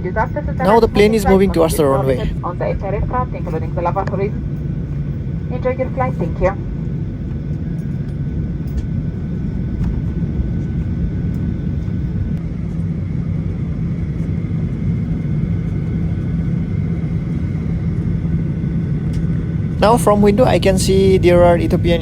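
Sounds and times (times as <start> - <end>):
faint high whine: 0.0 - 22.0
jet engines low rumble: 0.0 - 22.0.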